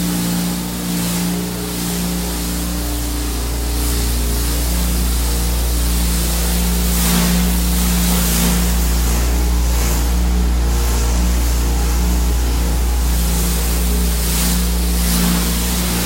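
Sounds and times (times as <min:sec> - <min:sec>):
high-pressure water spray hiss: 0:00.0 - 0:16.0
pressure washer engine hum: 0:00.0 - 0:16.0.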